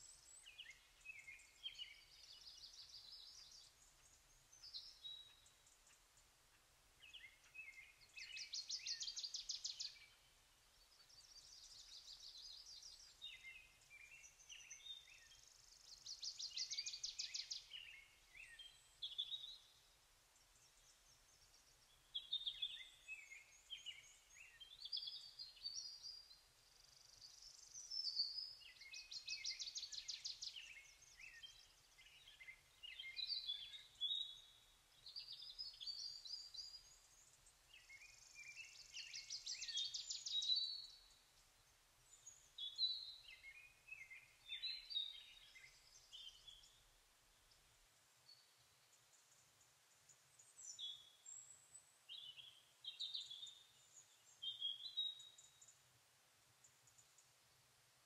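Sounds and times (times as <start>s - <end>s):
birdsong chirps and whistles: 0.0s - 47.6s, 48.2s - 55.9s.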